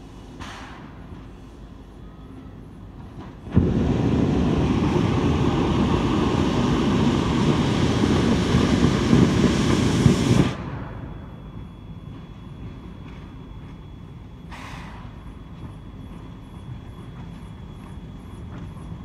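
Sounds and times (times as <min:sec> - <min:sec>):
steam locomotive blowing down: 0:00.0 - 0:19.0.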